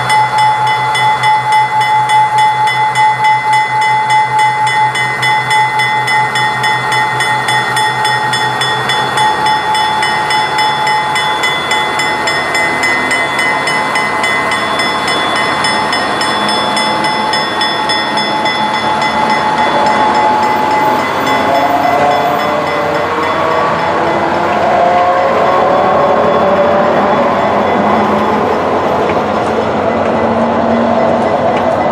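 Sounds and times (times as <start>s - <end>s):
diesel locomotive engine whine: 0.0s - 31.9s
train wheels squealing: 0.0s - 31.9s.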